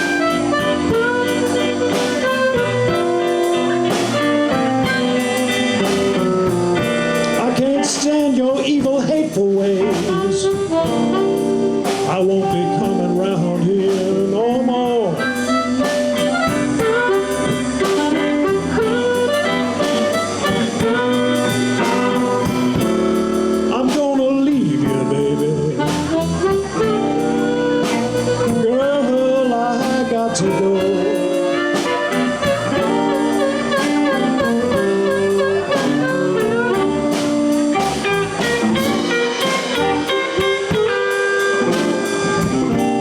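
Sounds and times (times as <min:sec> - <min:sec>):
live blues band playing: 0:00.0 - 0:43.0.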